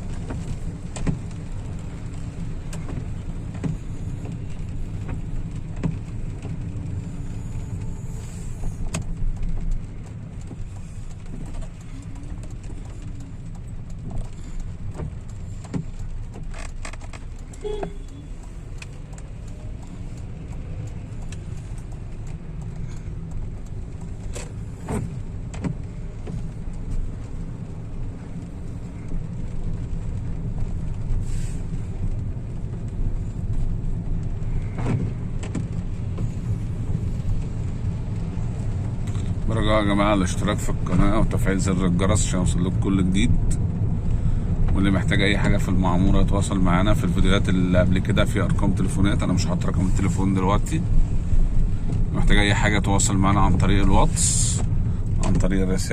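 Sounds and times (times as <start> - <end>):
car driving in rain: 0.0 - 55.9.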